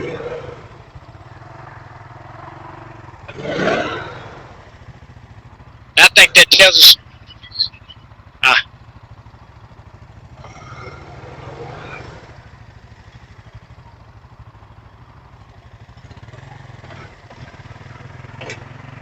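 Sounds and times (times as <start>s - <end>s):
faint engine rush: 0.0s - 19.0s
four-wheeler engine idling: 0.0s - 19.0s.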